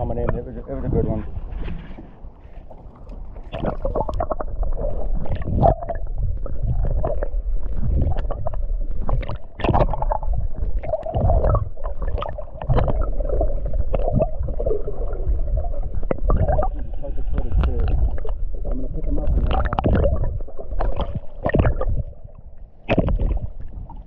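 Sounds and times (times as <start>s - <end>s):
underwater gurgling and rumbling: 0.0s - 24.0s.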